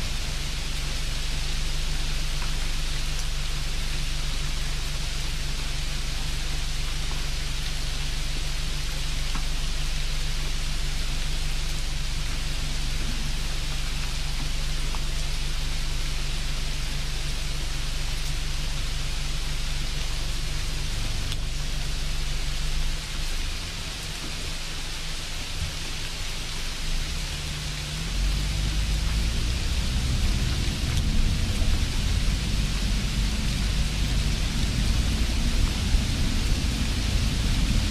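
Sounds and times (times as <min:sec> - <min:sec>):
deep rumble: 0:00.0 - 0:25.0, 0:26.6 - 0:37.9
low hum: 0:00.0 - 0:25.8, 0:26.5 - 0:37.9
steady hiss: 0:00.0 - 0:37.9.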